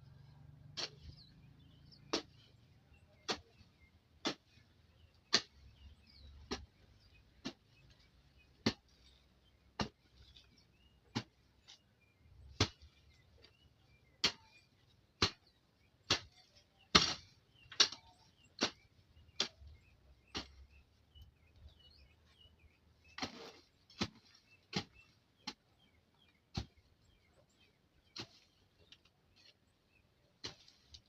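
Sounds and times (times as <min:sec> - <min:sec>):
weeding tool chopping soil: 0:00.5 - 0:29.6, 0:30.3 - 0:31.0.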